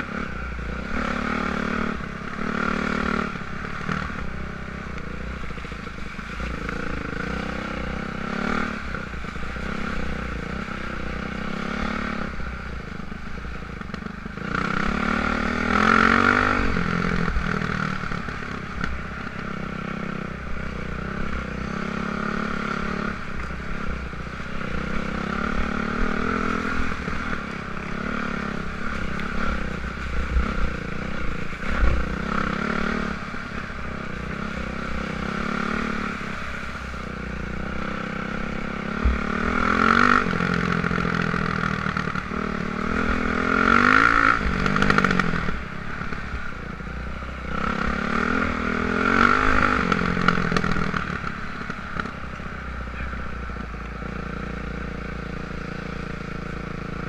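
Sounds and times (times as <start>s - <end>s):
dirt bike engine revving: 0.0s - 52.2s.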